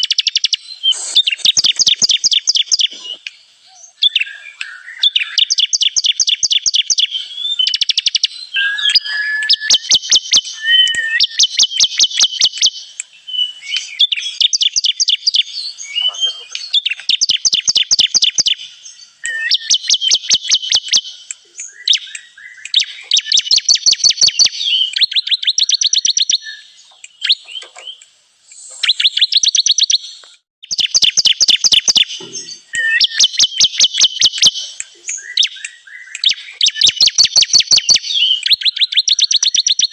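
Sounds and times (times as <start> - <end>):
bird song of dry chipping notes: 0.0 - 39.9.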